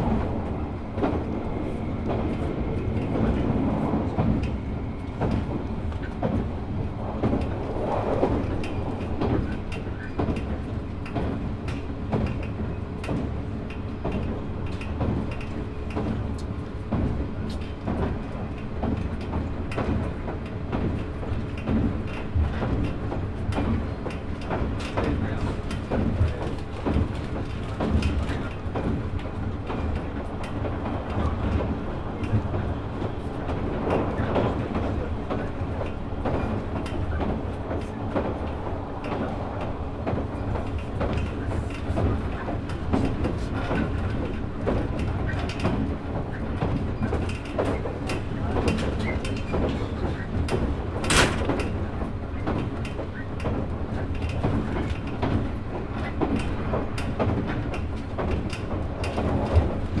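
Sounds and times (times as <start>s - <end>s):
rail clicks: 0.0s - 60.0s
train wheel rumble and motor hum: 0.0s - 60.0s.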